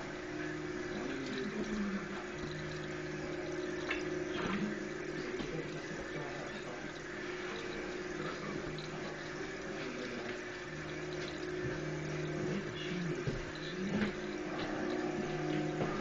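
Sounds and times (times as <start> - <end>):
aquarium filter water noise: 0.0 - 16.0
low motor hum: 0.0 - 16.0.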